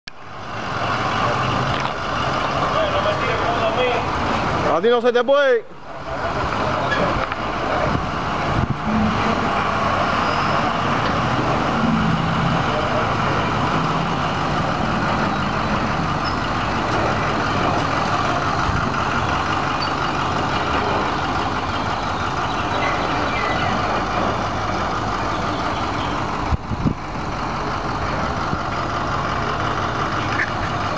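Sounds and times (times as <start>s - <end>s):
diesel truck engine running: 0.1s - 30.9s.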